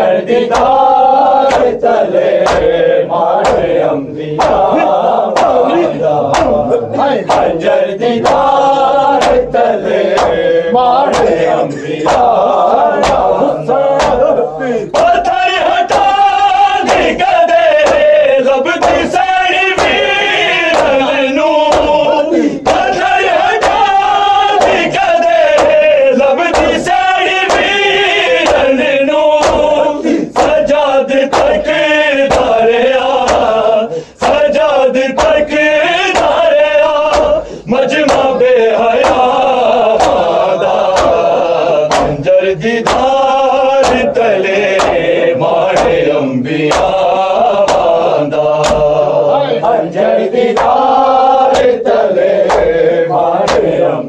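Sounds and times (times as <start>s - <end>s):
men chanting a lament: 0.0s - 54.0s
chest-beating slaps: 0.3s - 49.2s, 50.4s - 54.0s.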